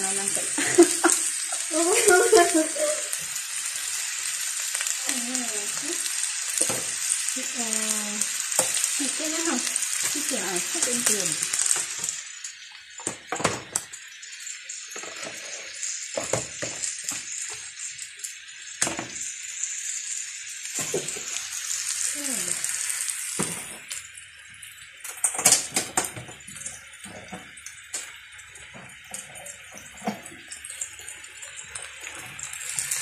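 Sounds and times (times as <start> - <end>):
food sizzling in a wok: 0.0 - 33.0.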